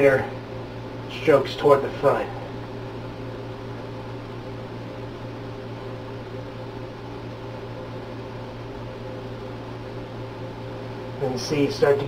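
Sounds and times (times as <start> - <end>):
constant hiss: 0.0 - 12.0
machine hum: 0.0 - 12.0.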